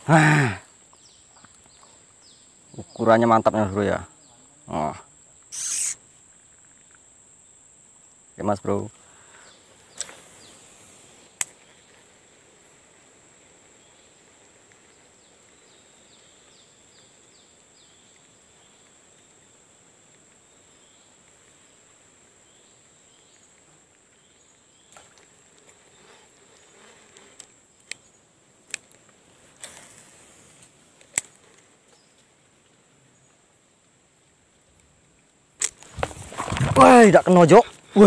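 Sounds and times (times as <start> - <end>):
insect buzzing: 0.0 - 38.0.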